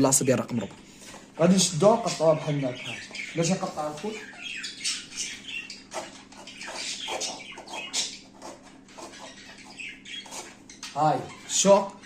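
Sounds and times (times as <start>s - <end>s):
zebra finches calling: 1.4s - 12.0s.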